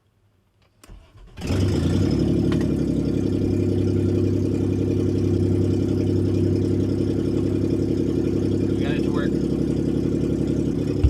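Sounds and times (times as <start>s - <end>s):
loud engine idling without exhaust: 2.0s - 11.0s.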